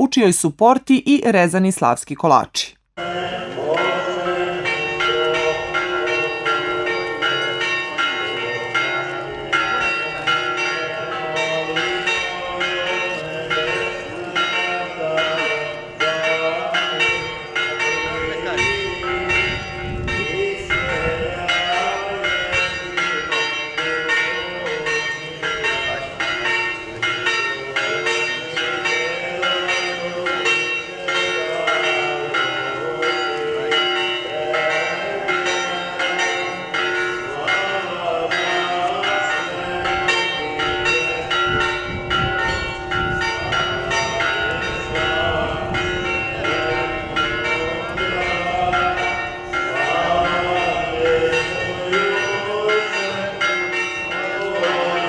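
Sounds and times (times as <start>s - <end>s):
church bells pealing: 3.0s - 55.0s.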